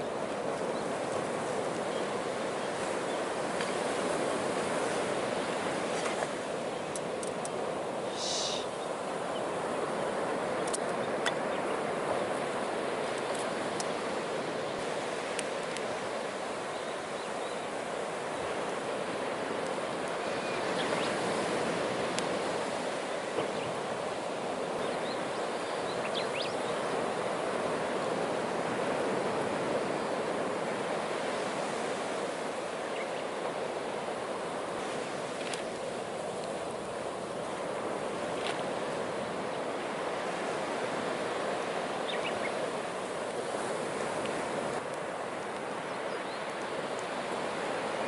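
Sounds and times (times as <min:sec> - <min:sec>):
surf on the shore: 0:00.0 - 0:48.0.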